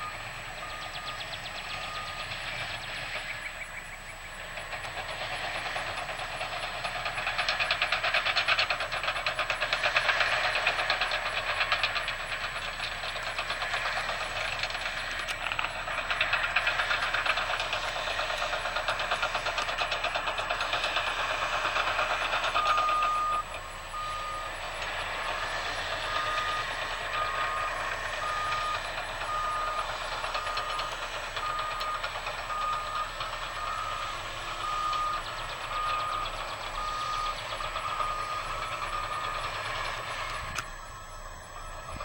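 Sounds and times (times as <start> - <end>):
reversing alarm beeping: 0.0 - 3.6, 5.8 - 42.0
diesel engine running: 0.0 - 42.0.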